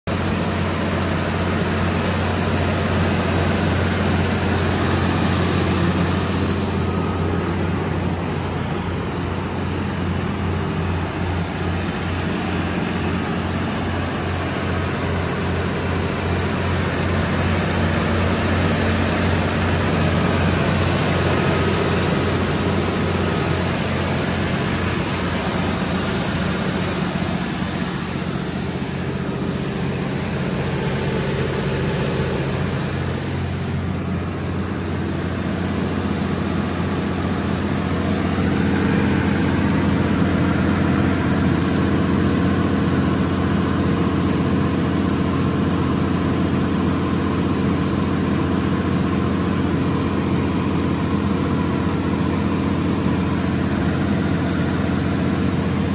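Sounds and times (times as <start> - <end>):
diesel generator engine droning: 0.0 - 55.9.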